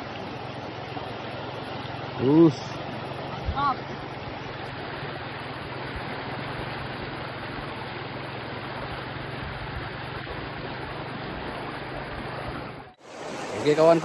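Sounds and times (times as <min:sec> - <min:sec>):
river rapids rushing over rocks: 0:00.0 - 0:14.0.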